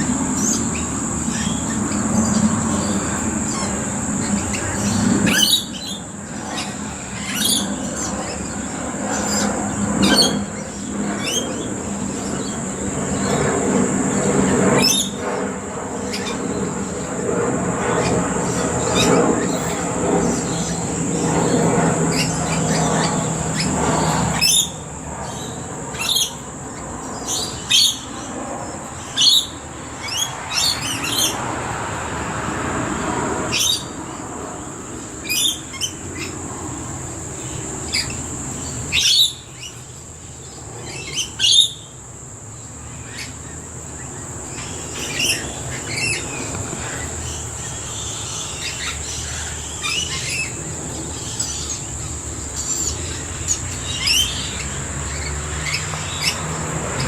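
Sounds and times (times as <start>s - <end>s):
lorikeets screeching: 0.0s - 57.0s
steady high whine: 0.0s - 57.0s.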